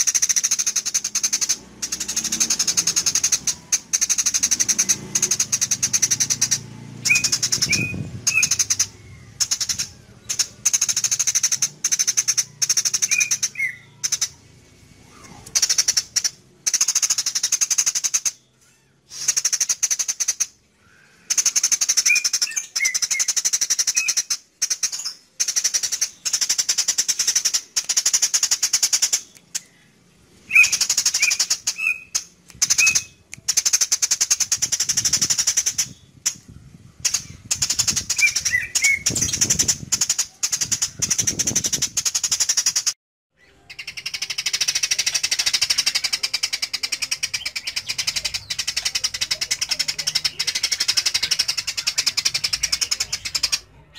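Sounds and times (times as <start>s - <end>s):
sparrow chattering song: 0.0s - 53.9s.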